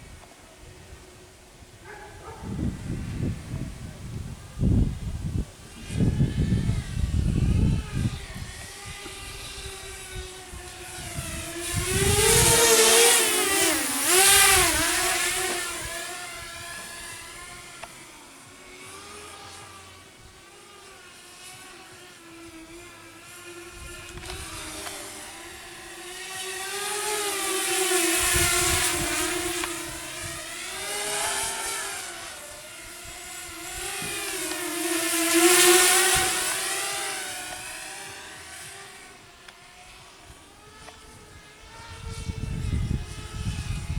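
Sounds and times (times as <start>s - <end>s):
quadcopter motors whining: 0.0s - 43.9s.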